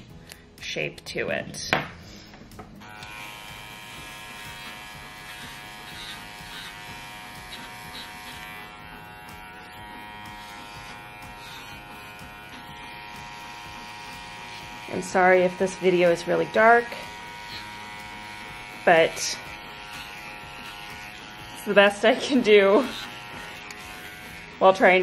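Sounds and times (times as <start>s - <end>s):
electric pet clippers buzzing: 2.8s - 25.0s.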